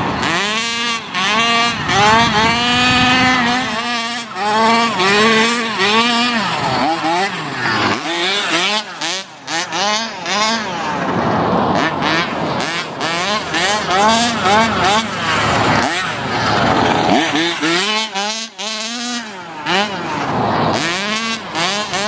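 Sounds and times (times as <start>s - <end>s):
two-stroke engine revving: 0.0s - 22.0s.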